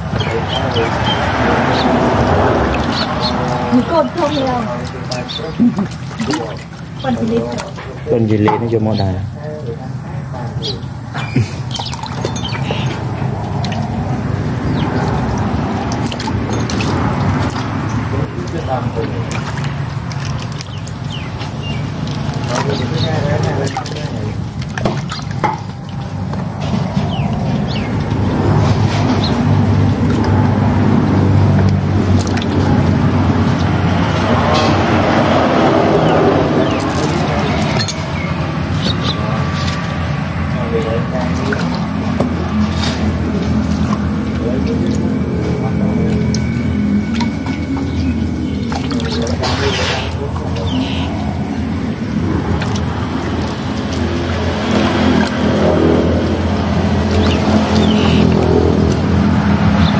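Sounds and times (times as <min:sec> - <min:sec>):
wet squelching and splashing: 0:00.0 - 0:08.4, 0:10.5 - 0:59.9
low engine hum: 0:00.0 - 0:59.9.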